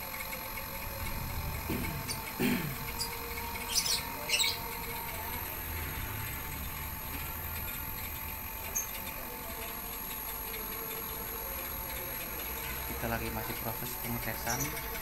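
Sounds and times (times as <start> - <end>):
air conditioner compressor humming: 0.0 - 15.0.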